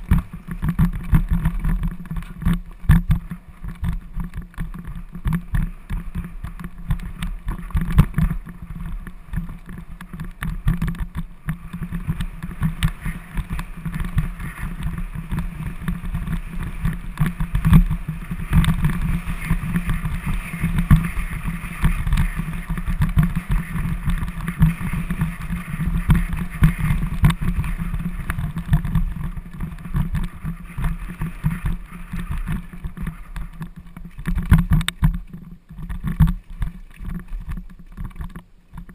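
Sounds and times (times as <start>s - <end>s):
bike rattling over stone path: 0.0s - 38.9s.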